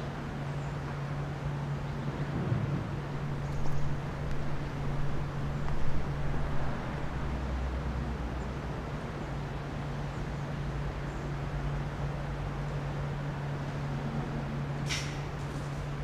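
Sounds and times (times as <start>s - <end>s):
distant traffic: 0.0s - 16.0s.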